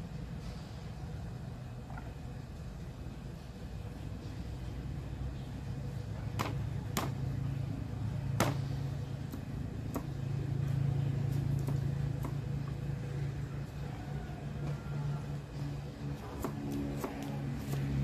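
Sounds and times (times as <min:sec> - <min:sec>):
steady low drone: 0:00.0 - 0:18.0.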